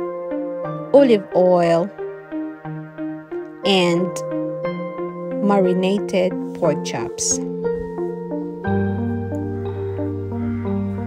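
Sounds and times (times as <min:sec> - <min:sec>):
light background music melody: 0:00.0 - 0:11.0.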